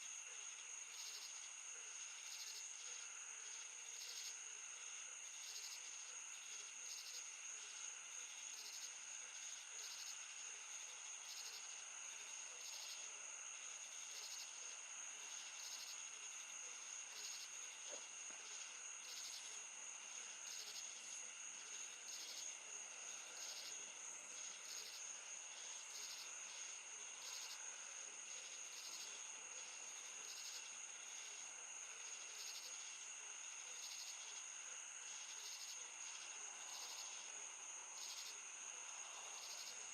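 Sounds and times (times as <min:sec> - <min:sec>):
faint insect chirp: 0:00.0 - 0:39.9
crickets trilling: 0:02.2 - 0:39.9.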